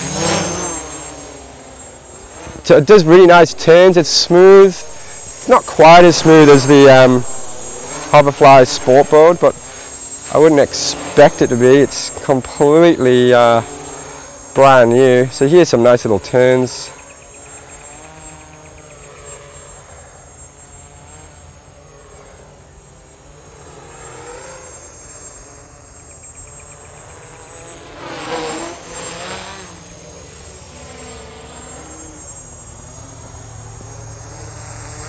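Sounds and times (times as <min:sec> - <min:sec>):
quadcopter motors buzzing: 0:00.0 - 0:35.0.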